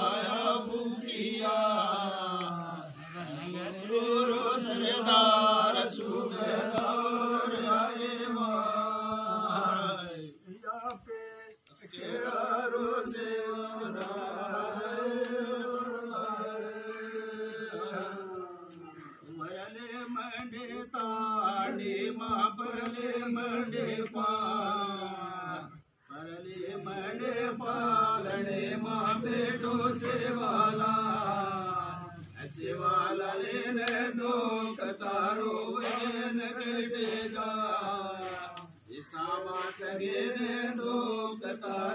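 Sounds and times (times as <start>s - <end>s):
men chanting a prayer: 0.0s - 41.9s.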